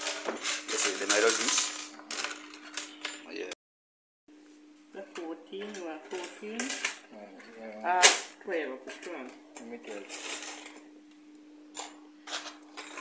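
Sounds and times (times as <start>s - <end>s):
steady hum: 0.0s - 3.6s, 4.3s - 13.0s.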